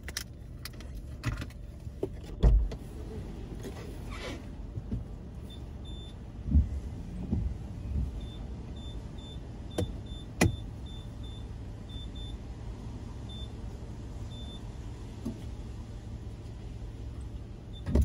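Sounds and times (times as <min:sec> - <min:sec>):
car road rumble: 0:00.0 - 0:18.0.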